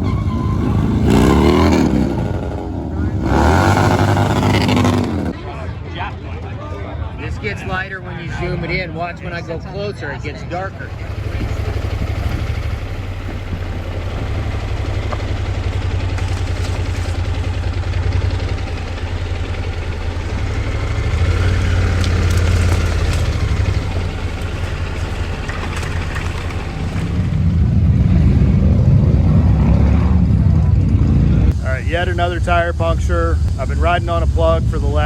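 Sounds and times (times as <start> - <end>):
motorcycle engine running: 0.0 - 5.4, 10.6 - 35.0.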